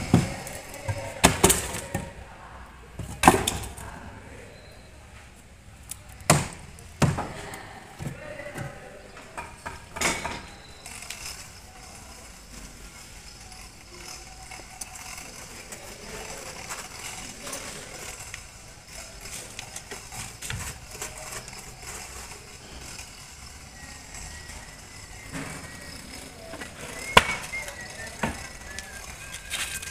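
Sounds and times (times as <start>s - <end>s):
faint voices: 0.0s - 29.9s.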